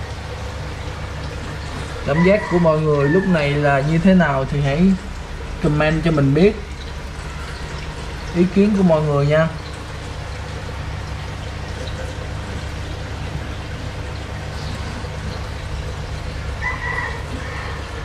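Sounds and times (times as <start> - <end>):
filter pump humming: 0.0 - 18.0
water trickling: 0.0 - 18.0.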